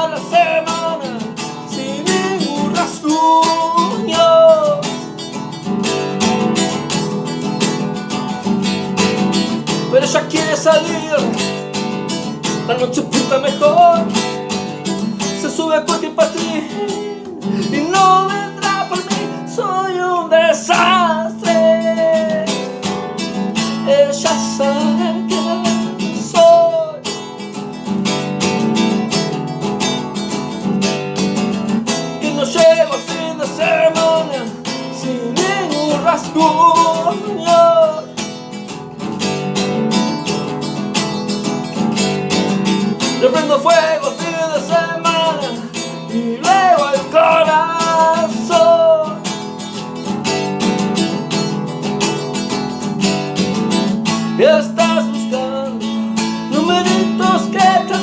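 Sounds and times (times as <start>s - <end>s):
sliding lead guitar line: 0.0s - 58.0s
strummed acoustic guitar: 0.0s - 58.0s.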